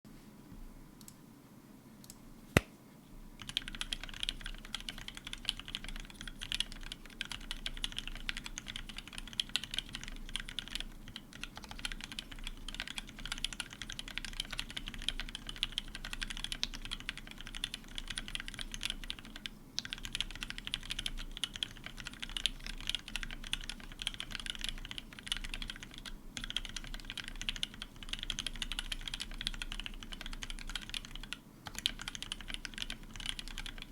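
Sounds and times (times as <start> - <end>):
fast mechanical keyboard typing: 3.4 - 33.9.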